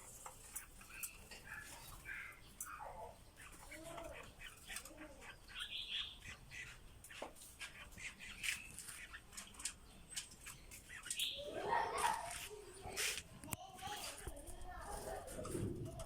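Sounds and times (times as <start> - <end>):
small songbirds chirping: 0.0 - 14.3.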